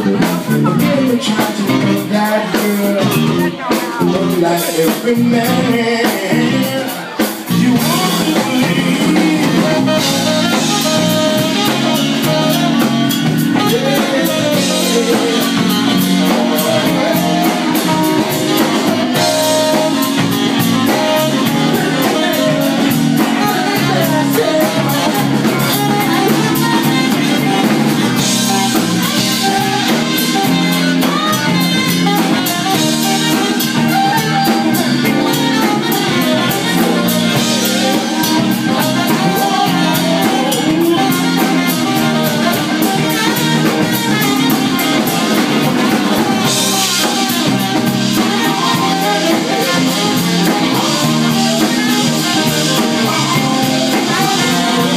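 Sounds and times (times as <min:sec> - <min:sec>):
blues band playing: 0:00.0 - 0:54.9
saxophone solo: 0:00.0 - 0:54.9.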